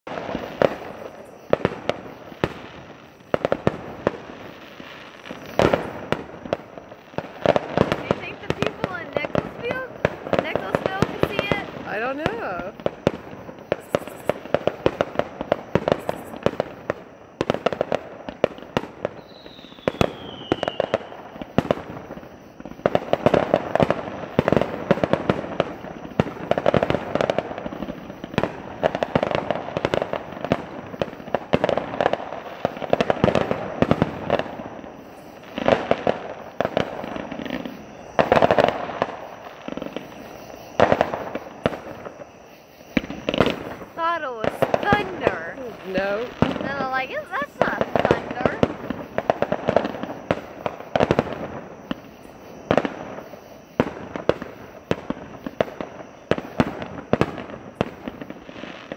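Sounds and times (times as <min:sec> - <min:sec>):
fireworks booming and crackling: 0:00.0 - 0:58.9
falling firework whistle: 0:00.1 - 0:58.9.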